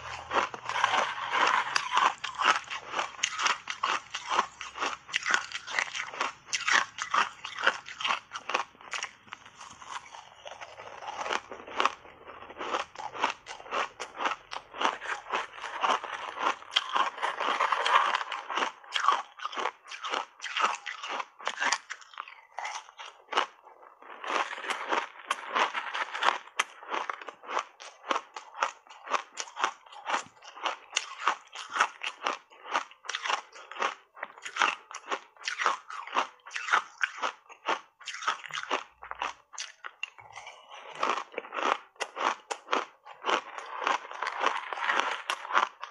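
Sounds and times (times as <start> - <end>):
ice being chewed with crunches: 0.0 - 45.9.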